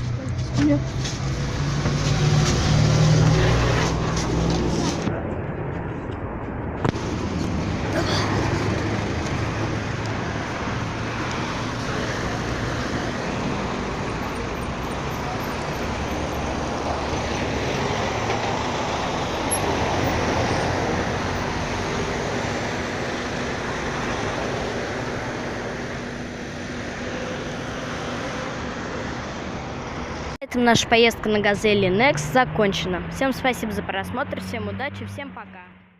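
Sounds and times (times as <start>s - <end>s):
minibus engine: 0.0s - 35.9s
road noise: 0.0s - 35.9s.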